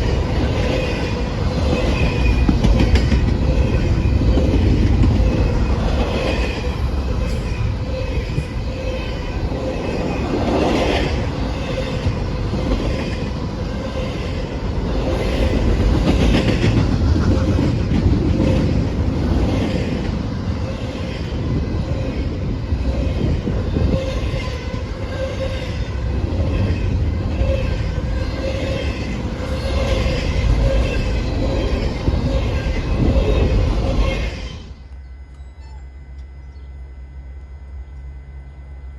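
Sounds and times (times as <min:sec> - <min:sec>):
train cars rumbling past: 0:00.0 - 0:36.0.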